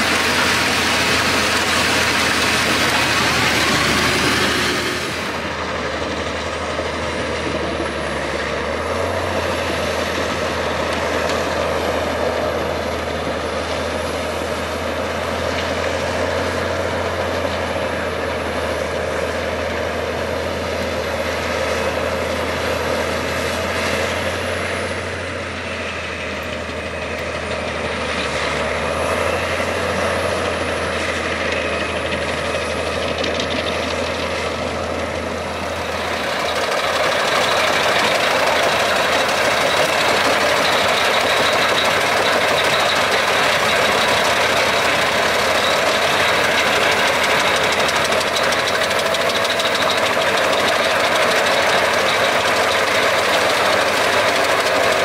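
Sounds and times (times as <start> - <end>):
engine running under load: 0.0 - 55.0
wood chipper shredding logs: 0.0 - 55.0.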